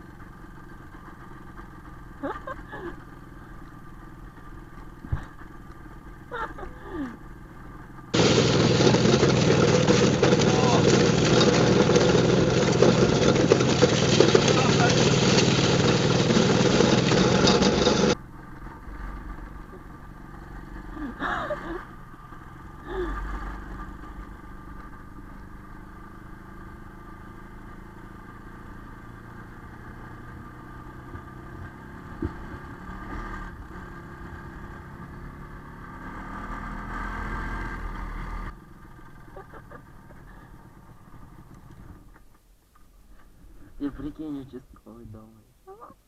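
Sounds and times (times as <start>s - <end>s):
motorcycle engine running: 0.0s - 42.4s.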